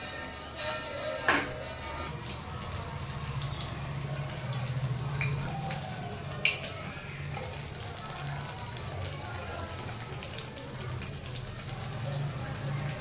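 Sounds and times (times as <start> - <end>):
batter sizzling in hot oil: 2.1 - 13.0
oil popping and crackling: 2.1 - 13.0.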